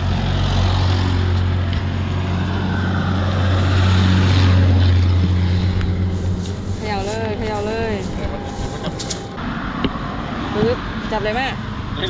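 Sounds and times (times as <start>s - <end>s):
traffic engine hum: 0.0s - 12.0s
vehicle passing: 0.0s - 12.0s.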